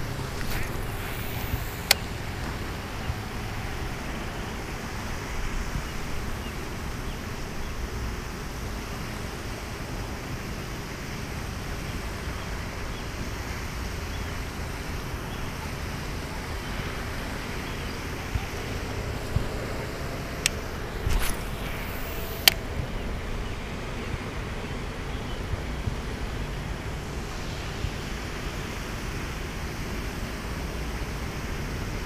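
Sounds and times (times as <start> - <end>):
wind rushing over microphone: 0.0 - 9.6, 12.6 - 32.0.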